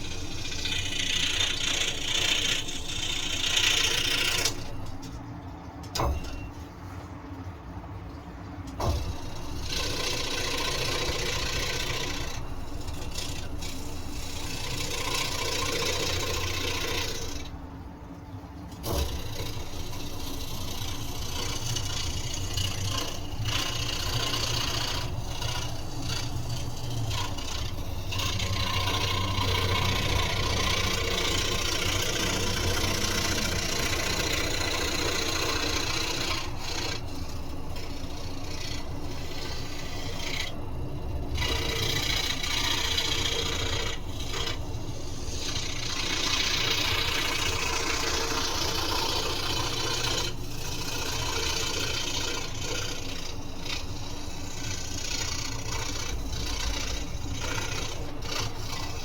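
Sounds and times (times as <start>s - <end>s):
scroll saw cutting wood: 0.0s - 5.2s, 6.0s - 6.4s, 8.7s - 17.6s, 18.7s - 59.0s.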